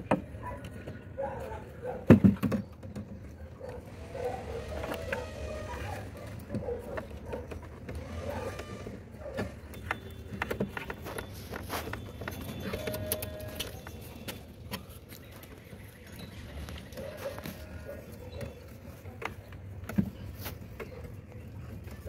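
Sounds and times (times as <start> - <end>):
wire creaking and scraping: 0.0 - 22.0.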